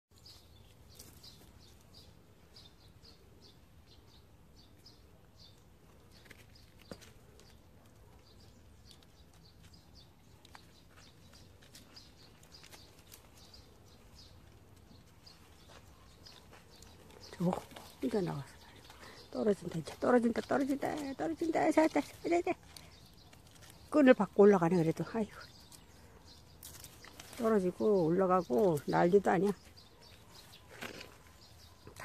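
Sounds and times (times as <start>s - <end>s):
faint small birds chirping: 0.1s - 32.0s.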